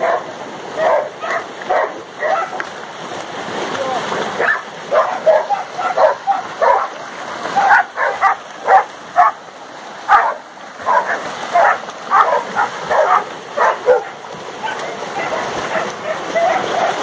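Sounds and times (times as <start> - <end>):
dogs barking and yipping: 0.0 - 2.6, 4.4 - 9.4, 10.1 - 17.0
splashing through shallow water: 0.0 - 17.0.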